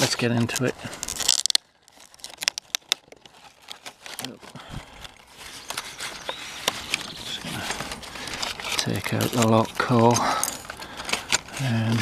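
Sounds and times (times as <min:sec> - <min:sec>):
plastic crinkling and clicking: 0:00.0 - 0:12.0
plastic packaging ripping: 0:00.0 - 0:12.0.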